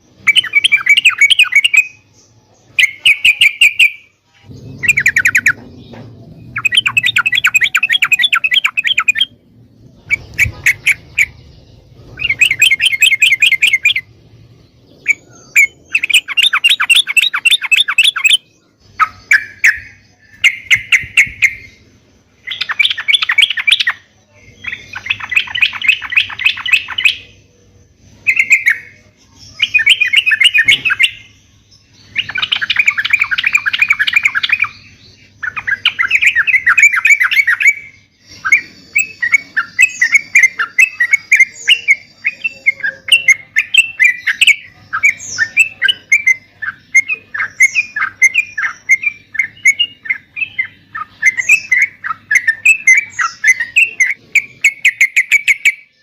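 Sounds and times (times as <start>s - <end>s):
bulbul singing chattering phrases: 0.0s - 56.0s.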